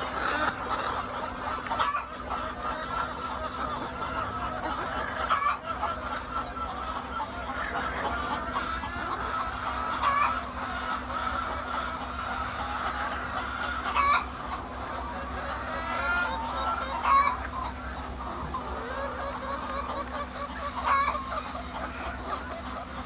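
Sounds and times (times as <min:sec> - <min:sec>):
hens clucking: 0:00.0 - 0:23.0
steady low hum: 0:00.0 - 0:23.0.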